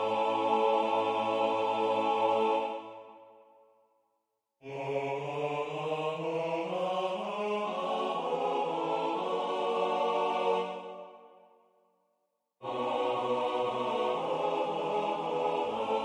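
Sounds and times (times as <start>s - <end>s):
synthesized choir chord: 0.0s - 3.4s, 4.6s - 11.5s, 12.6s - 16.0s.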